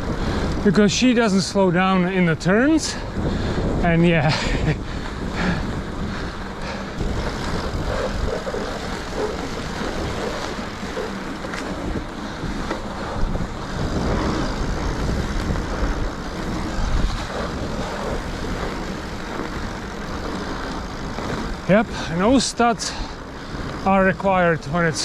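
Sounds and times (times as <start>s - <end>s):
bike tyres rolling on snow: 0.0s - 25.0s
wind on microphone: 0.0s - 25.0s.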